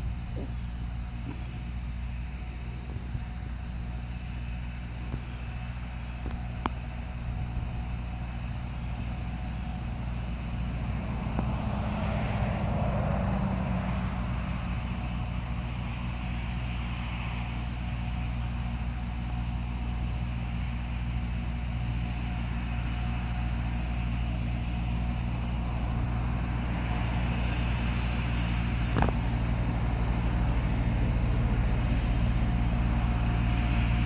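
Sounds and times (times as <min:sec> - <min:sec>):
crop sprayer engine running: 0:00.0 - 0:34.0.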